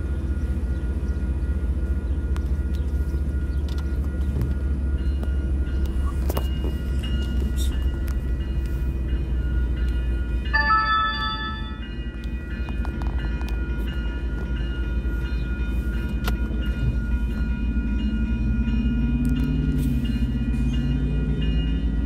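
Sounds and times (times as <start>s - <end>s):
crossing bells ringing: 0.0s - 22.0s
diesel locomotive rumble: 0.0s - 22.0s.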